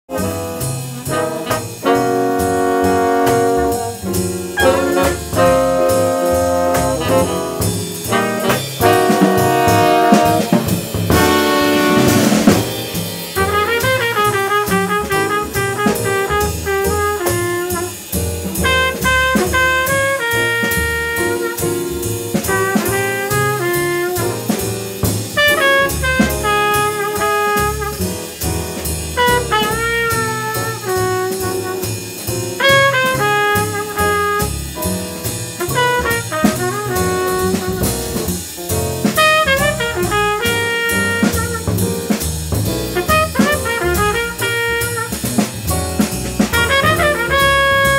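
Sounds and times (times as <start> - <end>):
bass: 0.0 - 47.9
piano: 0.0 - 47.9
trumpet melody: 0.1 - 42.2, 42.9 - 47.9
drum kit cymbals: 0.1 - 47.9.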